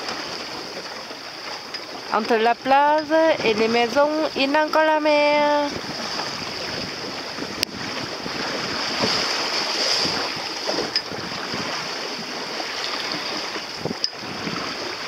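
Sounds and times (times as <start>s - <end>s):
water rushing along hull: 0.0s - 15.0s
wind on microphone: 2.1s - 15.0s.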